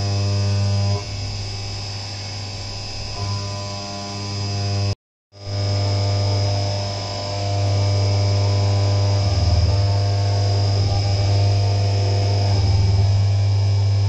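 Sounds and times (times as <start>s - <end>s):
milling machine cutting: 0.0s - 14.0s.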